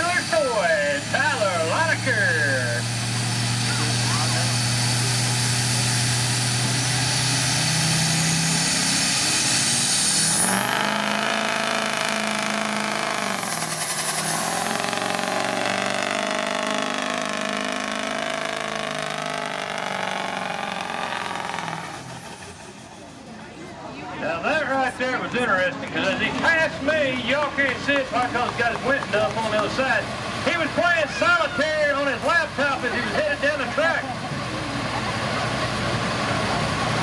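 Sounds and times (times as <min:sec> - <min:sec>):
diesel truck engine at full throttle: 0:00.0 - 0:37.0.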